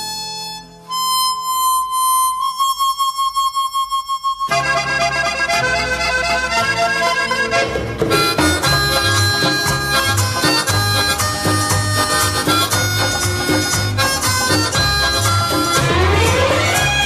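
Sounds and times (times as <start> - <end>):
instrumental film song: 0.0 - 17.0.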